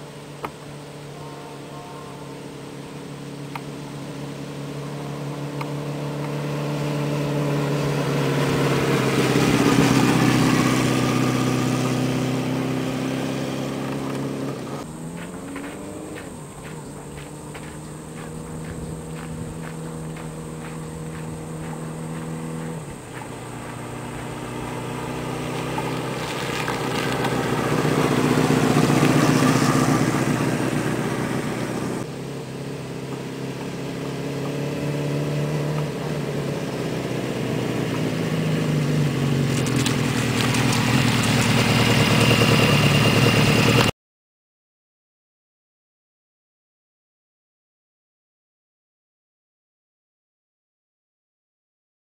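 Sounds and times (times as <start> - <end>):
motorcycle engine: 0.0 - 43.9.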